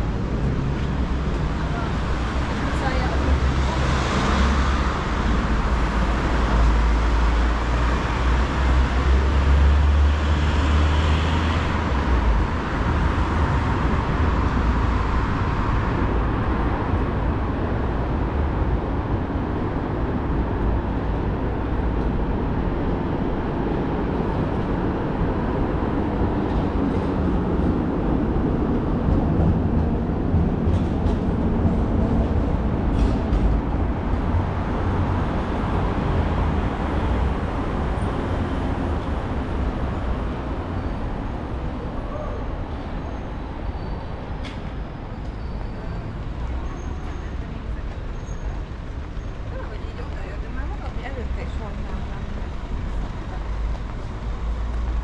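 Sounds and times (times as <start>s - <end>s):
hum of traffic: 0.0s - 55.0s.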